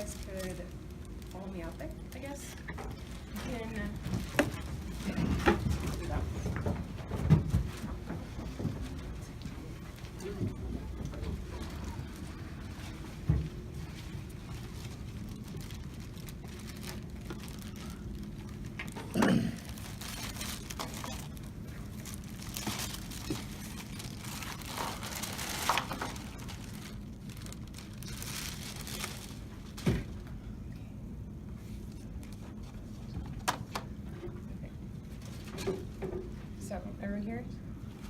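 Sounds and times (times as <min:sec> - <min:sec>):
rustling and crinkling: 0:00.0 - 0:30.4, 0:31.5 - 0:34.1, 0:35.0 - 0:36.6
steady low hum: 0:00.0 - 0:38.0.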